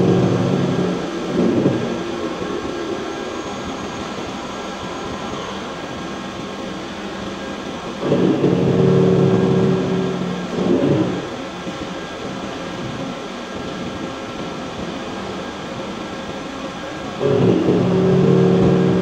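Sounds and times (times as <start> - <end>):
factory machinery noise: 0.0 - 19.0
loud droning hum: 0.0 - 19.0.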